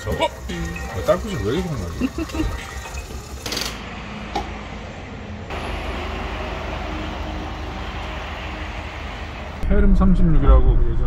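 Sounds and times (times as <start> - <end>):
traffic rumble: 1.1 - 11.0.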